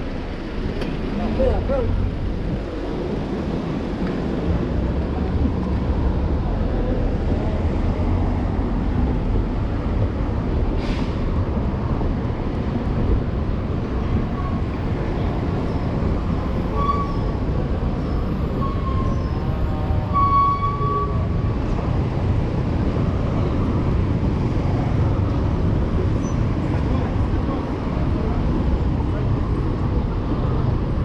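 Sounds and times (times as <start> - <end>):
city traffic rumble: 0.0 - 31.0.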